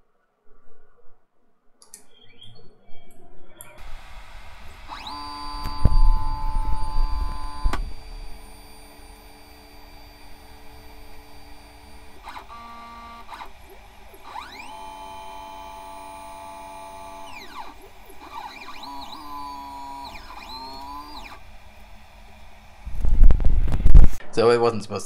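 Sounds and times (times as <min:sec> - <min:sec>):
faint hum: 0:00.0 - 0:25.0
stepper motor whine: 0:03.7 - 0:24.2.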